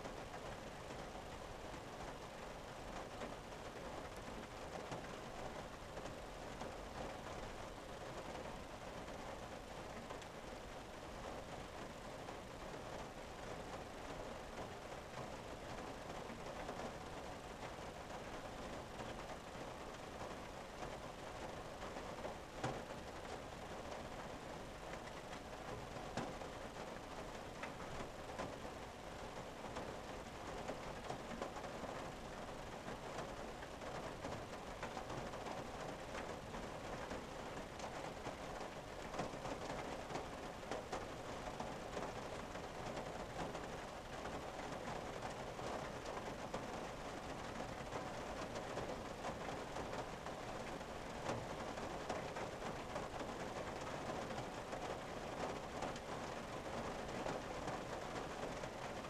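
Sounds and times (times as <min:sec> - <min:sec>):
rain on car windshield: 0:00.0 - 0:59.0.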